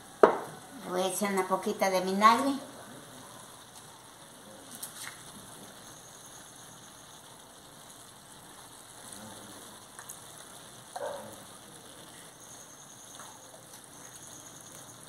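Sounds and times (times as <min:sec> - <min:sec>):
shrimp sizzling in a pan: 0:00.0 - 0:15.0.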